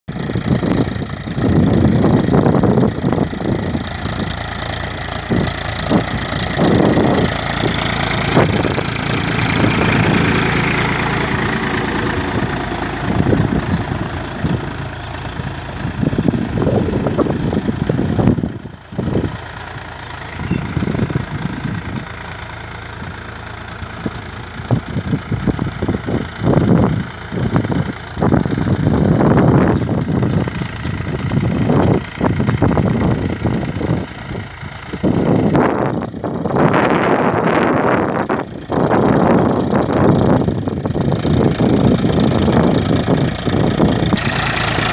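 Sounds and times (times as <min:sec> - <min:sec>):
tractor diesel engine under load: 0:00.1 - 0:44.9.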